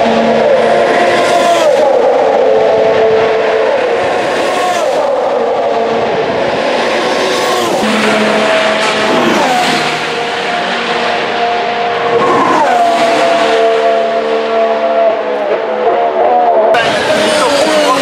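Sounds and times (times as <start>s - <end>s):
race car engines downshifting: 0.0s - 18.0s.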